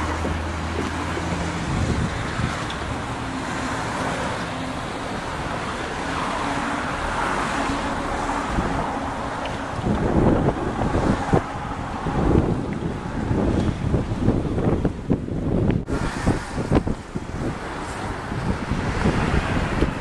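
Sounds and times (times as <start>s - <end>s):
road traffic: 0.0s - 20.0s
wind buffeting microphone: 0.0s - 20.0s.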